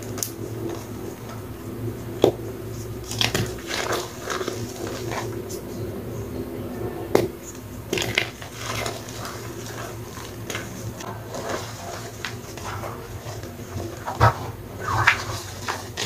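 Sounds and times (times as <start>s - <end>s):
wet chalk squishing and crumbling: 0.0s - 6.1s, 7.1s - 16.0s.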